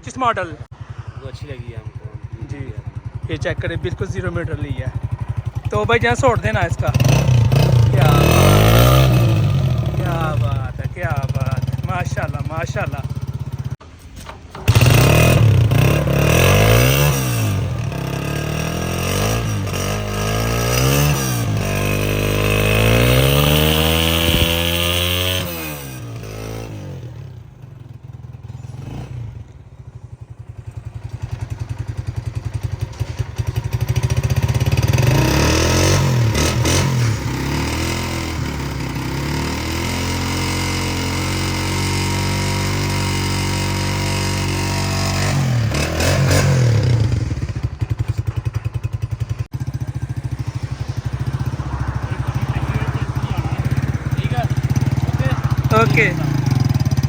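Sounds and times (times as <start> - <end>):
motorcycle engine revving and idling: 0.0 - 57.0.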